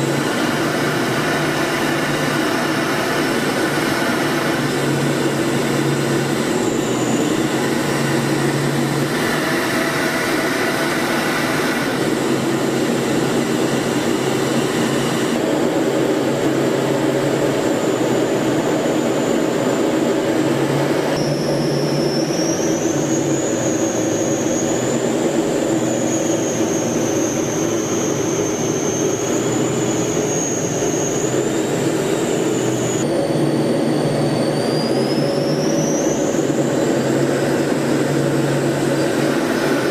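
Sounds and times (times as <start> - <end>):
aircraft engines roaring: 0.0 - 39.9
high turbine whine: 0.0 - 39.9.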